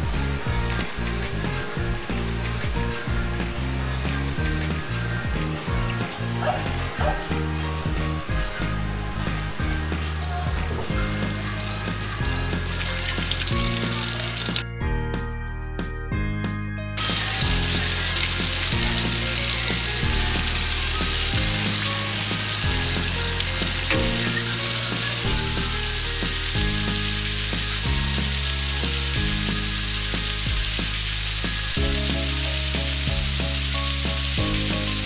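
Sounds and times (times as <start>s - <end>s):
oil sizzling in a wok: 0.0s - 14.7s, 17.0s - 35.0s
background music with bass: 0.0s - 35.0s.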